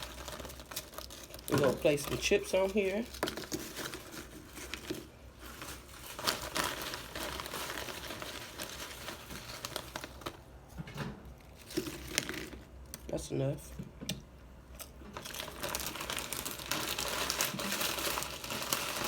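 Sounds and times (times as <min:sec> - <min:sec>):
foil chip bag crinkling: 0:00.0 - 0:13.3, 0:14.8 - 0:19.0.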